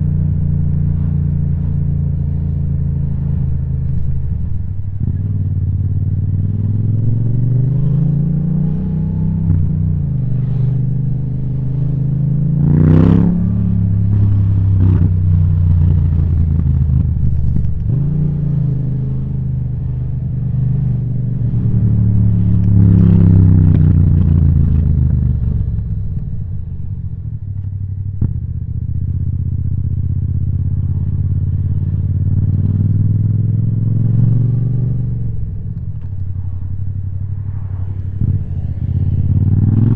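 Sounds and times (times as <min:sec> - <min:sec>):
motorcycle engine revving: 0:00.0 - 0:27.1, 0:28.1 - 0:39.9.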